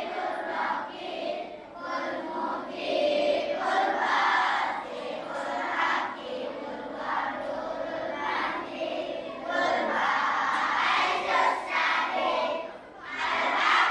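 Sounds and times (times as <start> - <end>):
children chanting in unison: 0.0 - 13.9.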